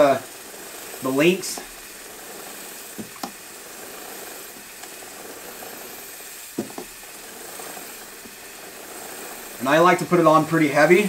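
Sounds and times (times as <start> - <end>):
aerosol spray hissing: 0.0 - 11.0.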